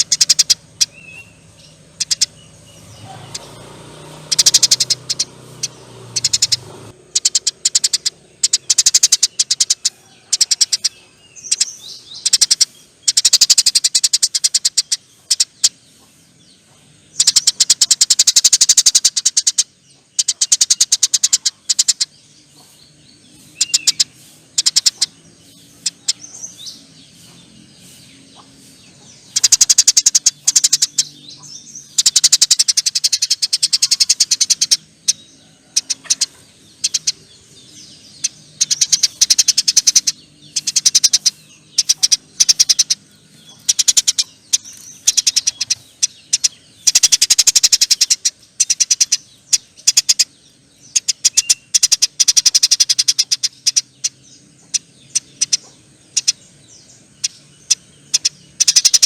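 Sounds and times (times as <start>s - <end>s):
sparrows chattering: 0.0s - 59.0s.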